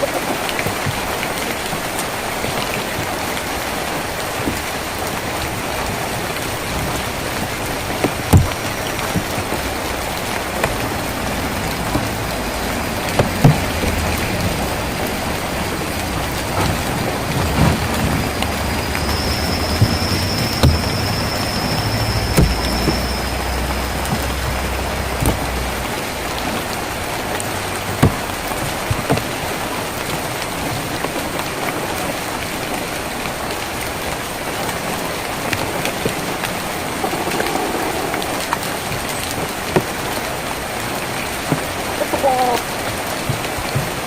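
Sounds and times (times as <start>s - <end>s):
rain on a tin roof: 0.0s - 44.0s.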